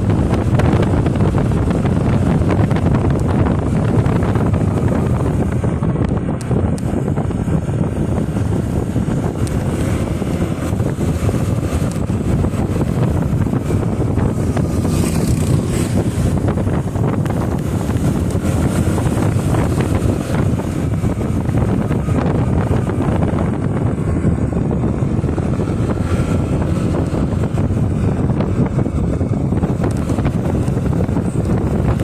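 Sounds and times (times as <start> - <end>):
motorcycle engine running: 0.0 - 32.0
road noise: 0.0 - 32.0
wind buffeting microphone: 0.0 - 32.0.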